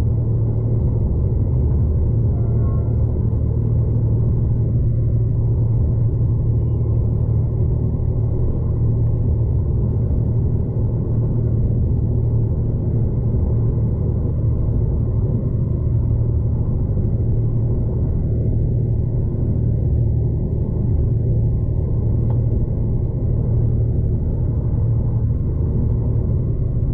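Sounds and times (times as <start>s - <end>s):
train rumbling inside carriage: 0.0s - 26.9s.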